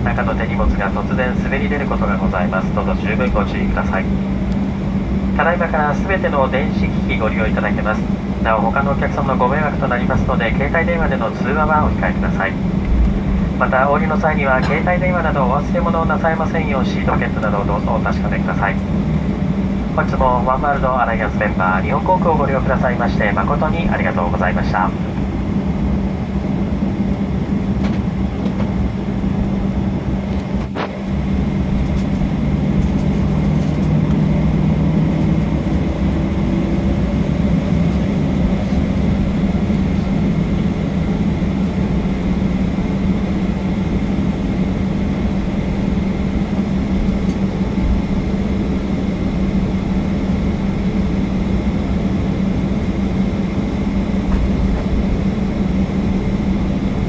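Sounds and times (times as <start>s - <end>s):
jet engines idling hum: 0.0s - 57.0s.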